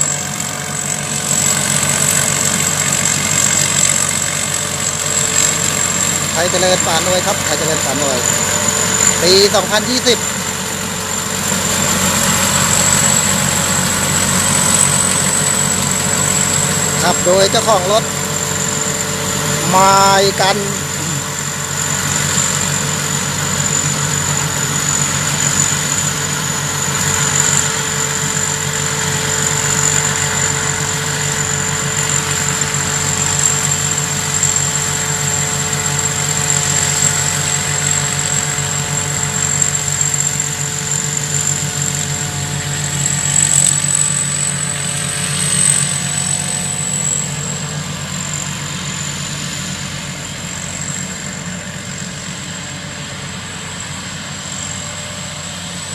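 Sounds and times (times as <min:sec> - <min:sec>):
combine harvester engine whining: 0:00.0 - 0:55.9.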